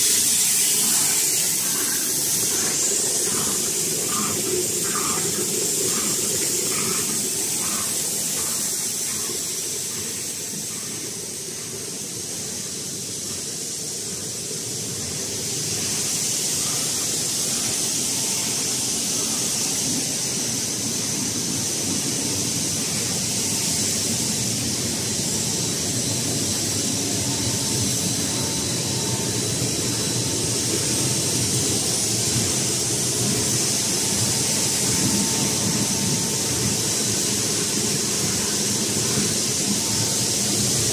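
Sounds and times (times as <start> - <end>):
machinery running: 0.0 - 40.9
water churning in a tank: 0.0 - 40.9.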